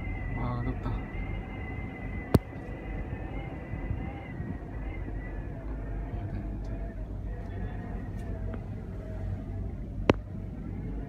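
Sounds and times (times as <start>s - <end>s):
cable car cabin rumbling: 0.0s - 11.0s.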